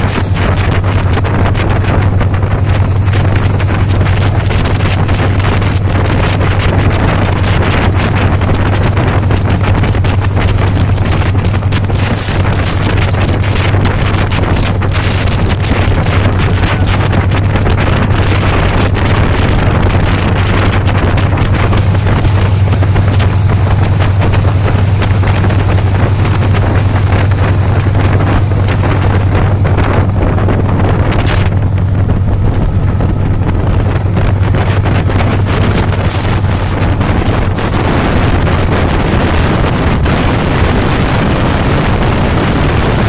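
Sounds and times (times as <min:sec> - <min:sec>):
train rumble: 0:00.0 - 0:43.0
wind buffeting microphone: 0:00.0 - 0:43.0.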